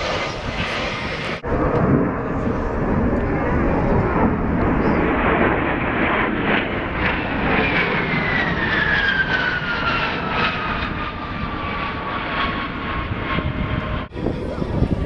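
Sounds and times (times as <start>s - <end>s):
airplane engine whine: 0.0s - 15.0s
continuous noisy roar: 0.0s - 15.0s.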